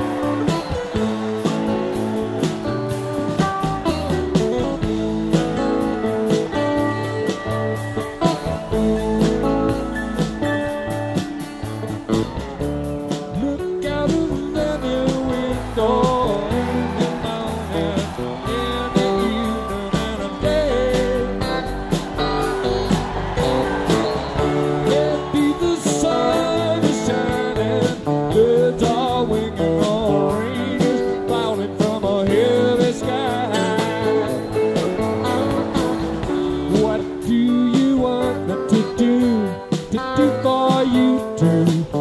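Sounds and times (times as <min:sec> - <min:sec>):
bending electric guitar lines: 0:00.0 - 0:42.0
live rock band playing: 0:00.0 - 0:42.0.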